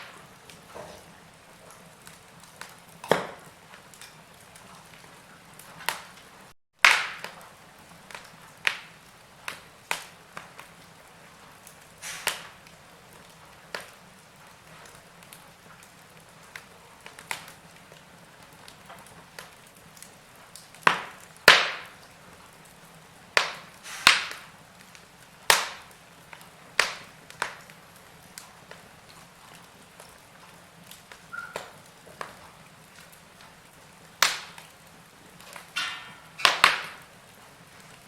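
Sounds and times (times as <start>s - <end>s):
faint steady hiss: 0.0s - 38.0s
wood fire crackling: 0.0s - 38.0s.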